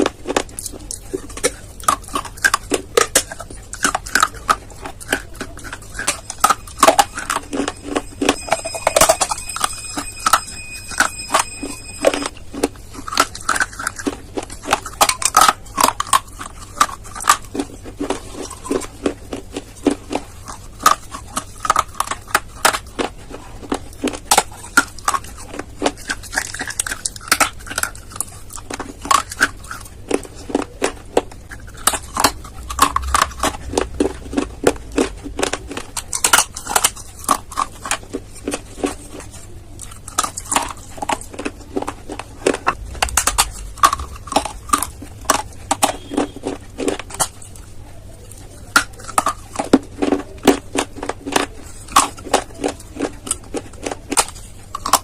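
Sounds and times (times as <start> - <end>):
clay being chewed with crunches: 0.0 - 55.0.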